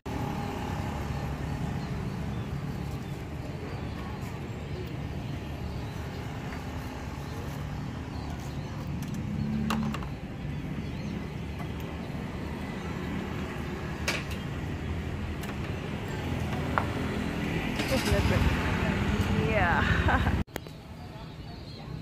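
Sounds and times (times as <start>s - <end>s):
street traffic rumble: 0.0s - 22.0s
vehicle passing: 0.1s - 20.4s.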